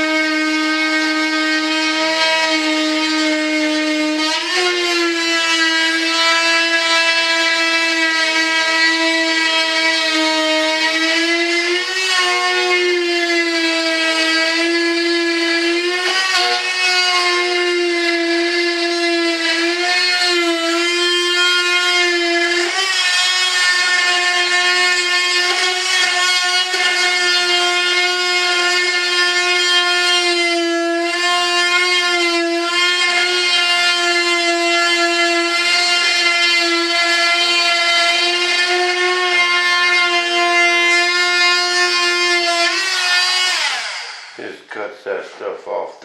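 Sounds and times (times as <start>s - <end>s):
rotary cutting tool whining: 0.0s - 45.9s.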